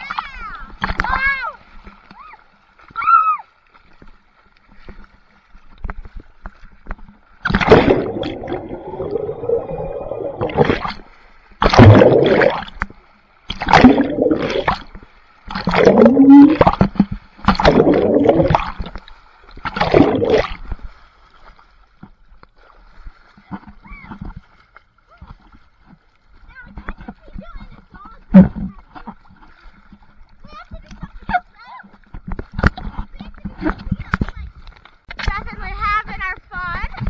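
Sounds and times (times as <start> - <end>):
water splashing and gurgling: 0.0 - 37.0.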